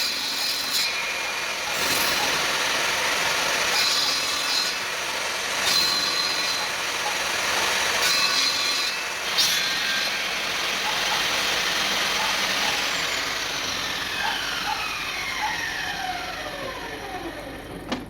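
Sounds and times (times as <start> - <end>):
table saw winding down: 0.0 - 18.0.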